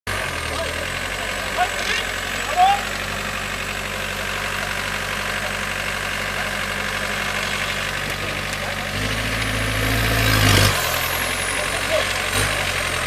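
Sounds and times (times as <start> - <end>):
vehicle engine idling: 0.1 - 13.0.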